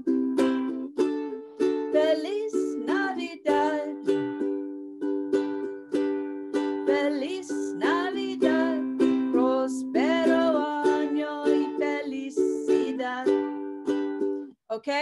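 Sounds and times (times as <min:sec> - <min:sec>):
person singing: 0:00.0 - 0:04.8, 0:06.6 - 0:14.1
ukulele strumming chords: 0:00.0 - 0:14.5.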